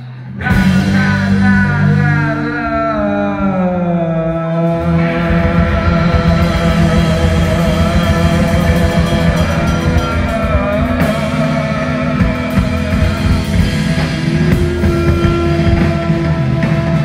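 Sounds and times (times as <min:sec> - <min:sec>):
rock band playing instrumental: 0:00.2 - 0:03.3, 0:04.7 - 0:17.0.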